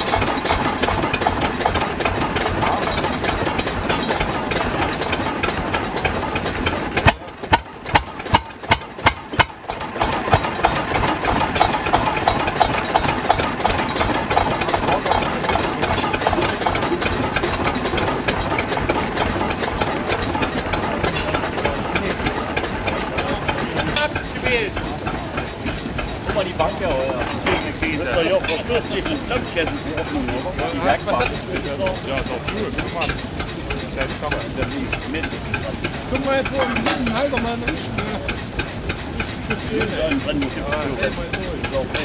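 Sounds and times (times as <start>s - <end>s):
diesel engine knocking: 0.0s - 42.0s.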